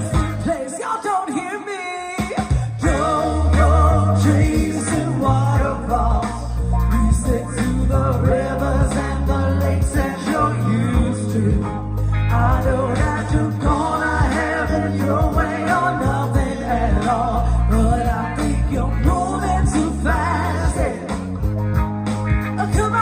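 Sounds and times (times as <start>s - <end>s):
heavy bass line: 0.0s - 0.6s, 2.5s - 23.0s
vocalist singing: 0.0s - 21.8s, 22.4s - 23.0s
electric guitar: 0.0s - 23.0s.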